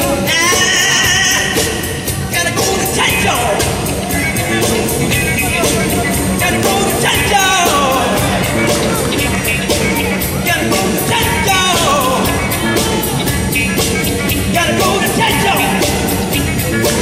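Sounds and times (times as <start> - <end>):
loud dance music with singing: 0.0 - 17.0.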